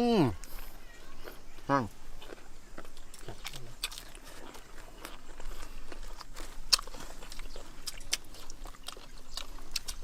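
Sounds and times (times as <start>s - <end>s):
person chewing and biting: 0.4s - 10.0s.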